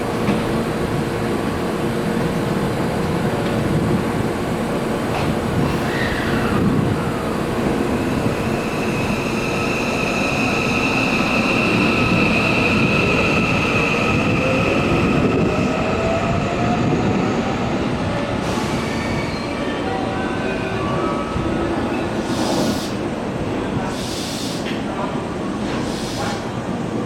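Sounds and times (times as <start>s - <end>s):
train wheels rumbling on rails: 0.0s - 19.8s, 20.8s - 27.0s.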